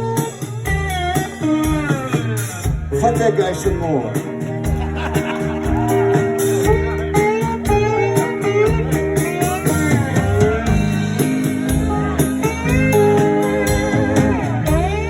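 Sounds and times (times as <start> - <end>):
bass guitar: 0.0 - 15.0
lead electric guitar: 0.0 - 15.0
steady drum beat: 0.0 - 15.0.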